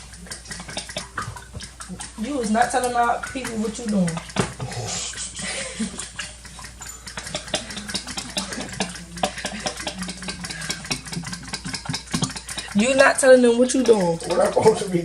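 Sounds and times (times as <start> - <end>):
utensil scraping a bowl: 0.0 - 15.0.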